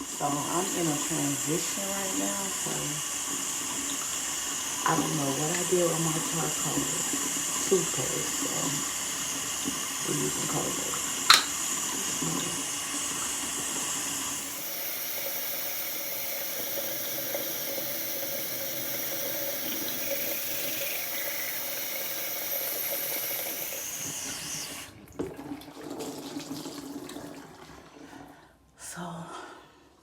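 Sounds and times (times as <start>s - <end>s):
sink tap running: 0.0s - 27.2s.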